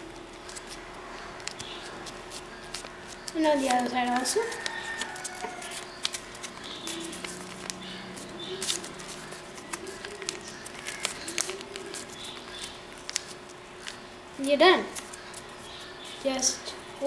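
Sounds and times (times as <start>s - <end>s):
paper rustling and crinkling: 0.4s - 17.0s.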